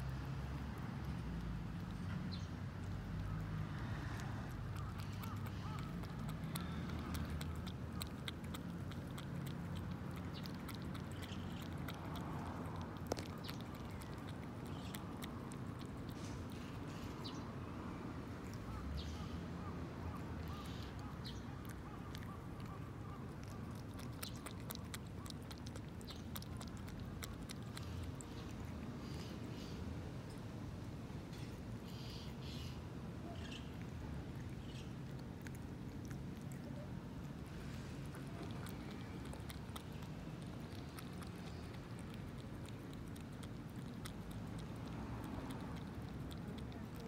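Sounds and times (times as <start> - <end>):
cat lapping and chewing: 0.0 - 47.0.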